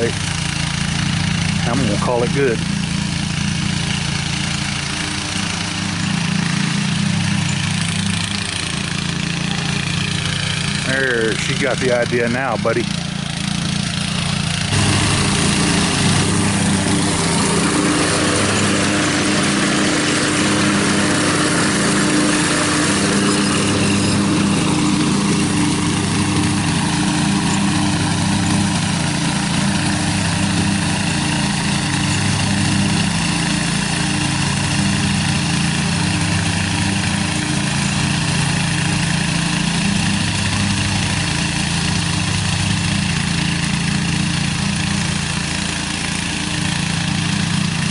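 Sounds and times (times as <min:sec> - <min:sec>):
riding lawn mower engine: 0:00.0 - 0:47.9.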